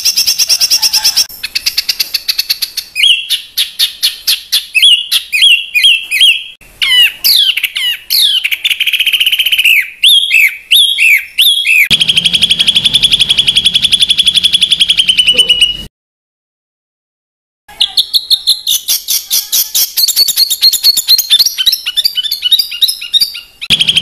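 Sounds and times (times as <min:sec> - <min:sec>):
songbird fast trill: 0:00.0 - 0:15.9, 0:17.8 - 0:24.0
songbird whistled notes: 0:00.0 - 0:15.9, 0:17.8 - 0:24.0.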